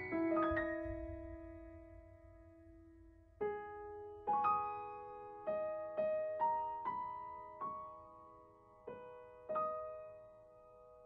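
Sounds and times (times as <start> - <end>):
soft piano notes: 0.0 - 11.0.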